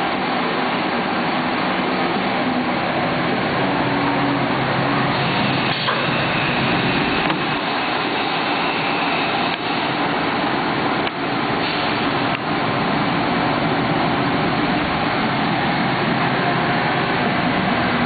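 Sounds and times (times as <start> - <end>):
high whine: 0.0 - 18.0.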